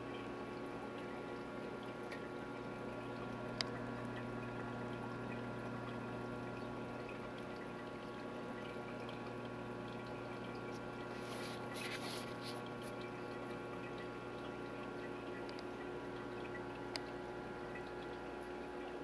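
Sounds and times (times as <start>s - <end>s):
constant hum: 0.0s - 19.0s
water trickling and splashing: 0.0s - 19.0s.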